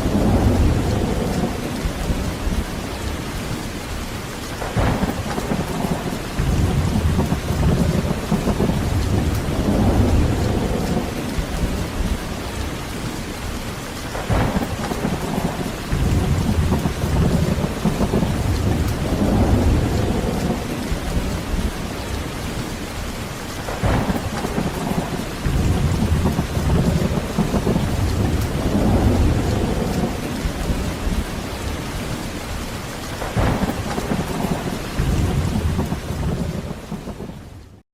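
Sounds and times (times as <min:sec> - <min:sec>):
heavy rain: 0:00.0 - 0:37.8
thunder cracking and rumbling: 0:00.0 - 0:37.8.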